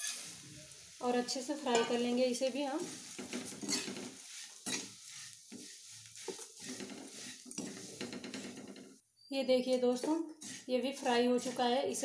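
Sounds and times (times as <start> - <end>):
metal spatula scraping pan: 0.0 - 0.4, 1.2 - 8.8, 10.0 - 12.0
light frying sizzle: 0.0 - 9.0, 9.7 - 12.0.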